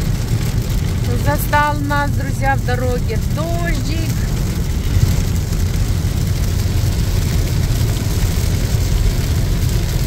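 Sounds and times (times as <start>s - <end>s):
rain and tyres hissing on wet road: 0.0s - 10.0s
road and engine rumble: 0.0s - 10.0s.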